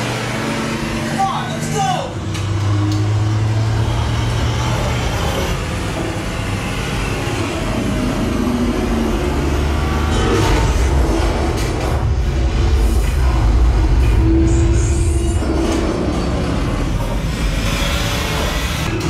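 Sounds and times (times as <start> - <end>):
heavy rumble from movie soundtrack: 0.0 - 19.0
strong low hum: 2.1 - 19.0.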